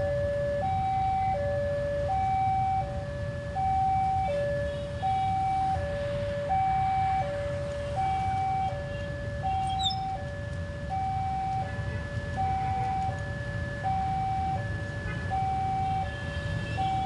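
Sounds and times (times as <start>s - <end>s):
level crossing two-tone alarm: 0.0s - 17.0s
low traffic rumble: 0.0s - 17.0s.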